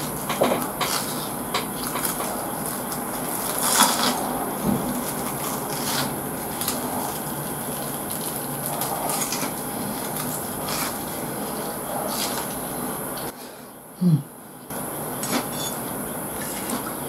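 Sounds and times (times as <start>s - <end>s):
crunchy chewing: 0.0s - 13.4s, 15.1s - 17.0s.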